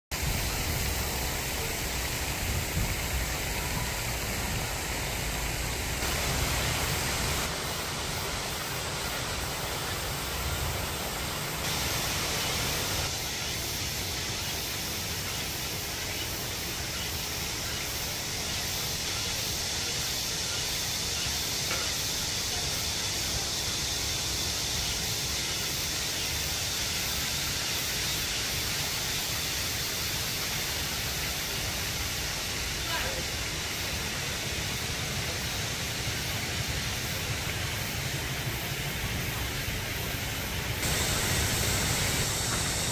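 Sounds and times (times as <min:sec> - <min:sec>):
mountain stream rushing: 0:00.1 - 0:42.9.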